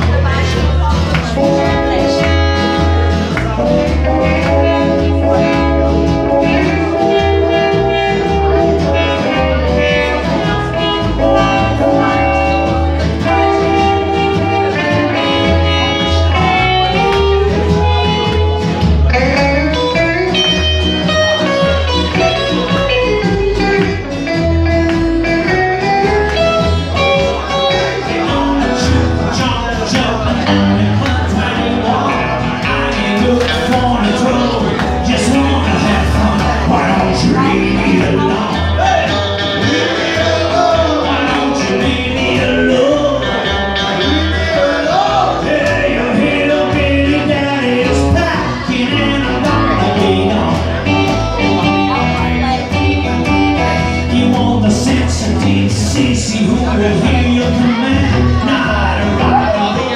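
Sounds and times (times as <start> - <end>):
country band playing: 0.0 - 59.9
steady bass line: 0.0 - 59.9.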